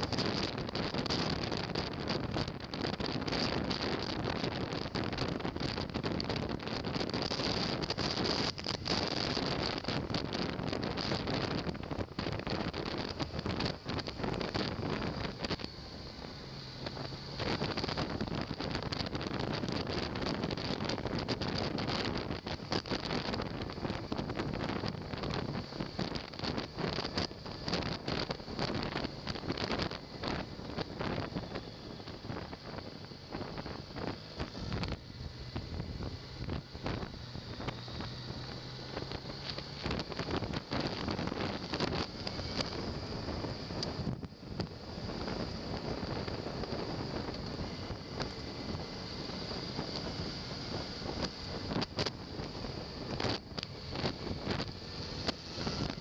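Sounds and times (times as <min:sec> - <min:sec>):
wind buffeting microphone: 0:00.0 - 0:15.9, 0:16.8 - 0:56.0
motorcycle engine hum: 0:00.0 - 0:56.0.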